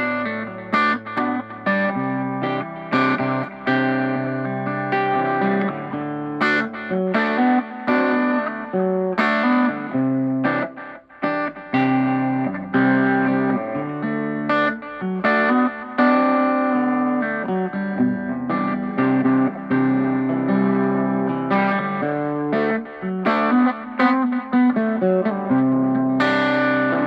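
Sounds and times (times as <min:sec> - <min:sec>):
electric guitar notes and chords: 0:00.0 - 0:27.0.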